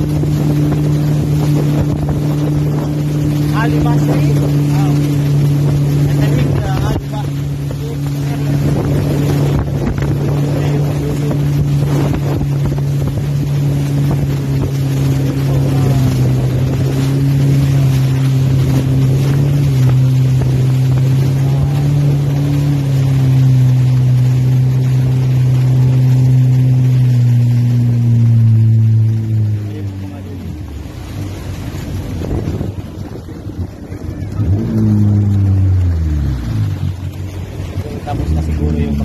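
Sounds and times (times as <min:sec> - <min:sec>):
wind buffeting microphone: 0:00.0 - 0:29.6, 0:30.5 - 0:39.0
jet ski engine running: 0:00.0 - 0:39.0
water rushing past hull: 0:00.0 - 0:39.0.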